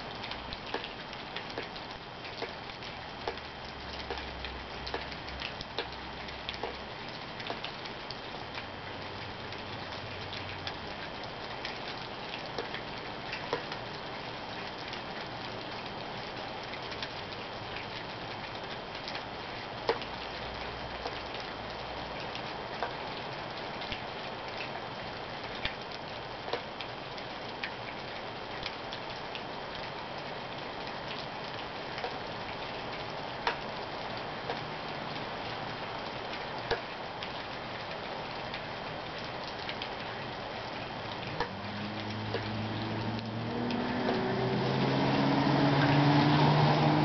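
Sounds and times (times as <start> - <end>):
steady rain: 0.0 - 47.0
drips ticking on hard surface: 0.1 - 46.7.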